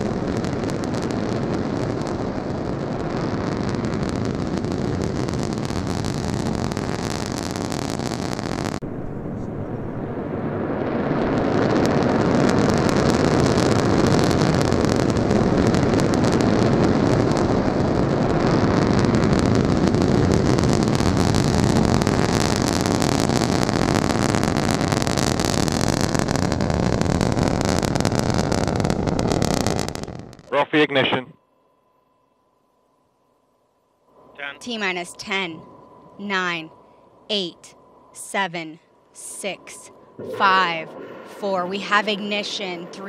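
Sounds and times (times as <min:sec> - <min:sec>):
rocket engines rumbling and crackling: 0:00.0 - 0:31.3, 0:34.1 - 0:43.0.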